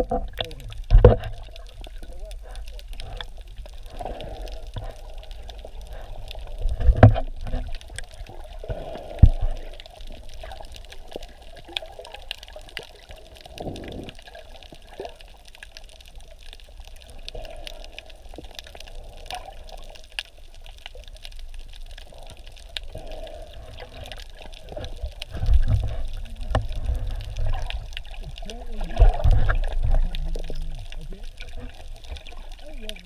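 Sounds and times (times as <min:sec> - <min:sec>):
water sloshing and gurgling: 0:00.0 - 0:33.0.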